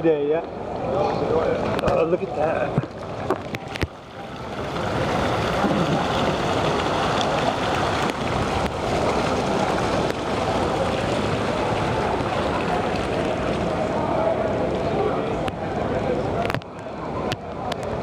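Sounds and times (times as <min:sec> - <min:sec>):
water rushing along ship hull: 0:00.6 - 0:18.0.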